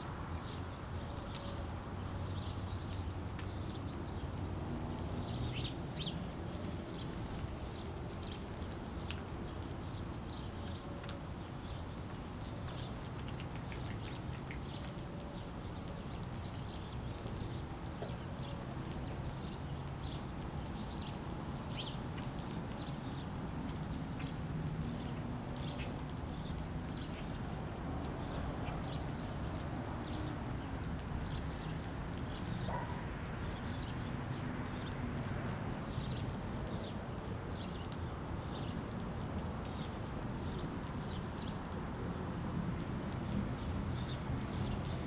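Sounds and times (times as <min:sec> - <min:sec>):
small birds chirping: 0:00.3 - 0:04.4, 0:05.0 - 0:42.1, 0:43.1 - 0:45.0.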